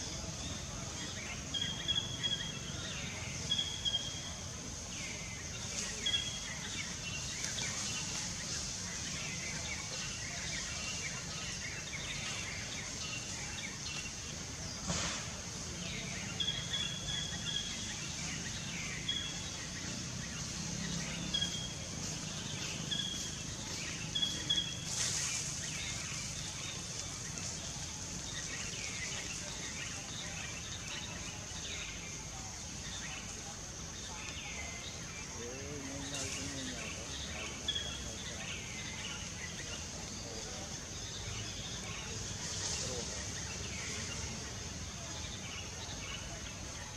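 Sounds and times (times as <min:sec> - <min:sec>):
bird chirping: 0:00.0 - 0:46.9
high-pitched hiss: 0:00.0 - 0:46.9.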